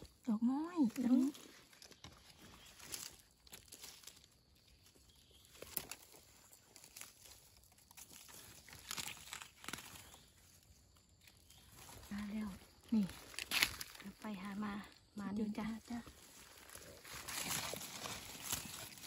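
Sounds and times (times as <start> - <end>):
dry leaves and twigs crackling: 0.0 - 19.0.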